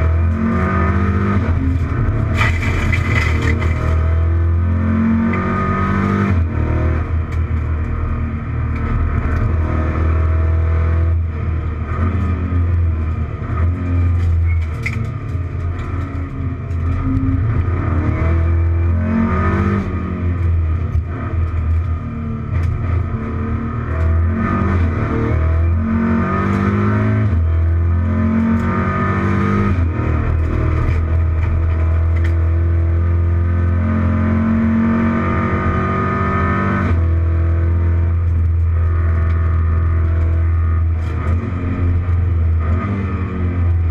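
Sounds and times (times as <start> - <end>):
racing car engine: 0.0 - 43.9
road and cabin drone: 0.0 - 43.9.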